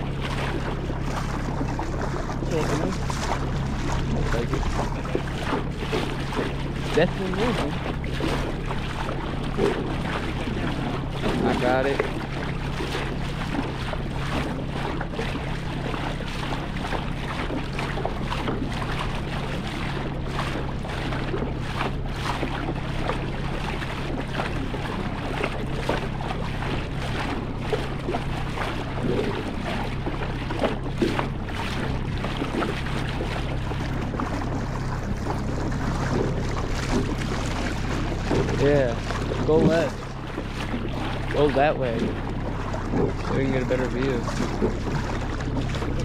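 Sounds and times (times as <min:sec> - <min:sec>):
boat motor humming: 0:00.0 - 0:46.0
water splashing against hull: 0:00.0 - 0:46.0
wind buffeting microphone: 0:00.0 - 0:46.0.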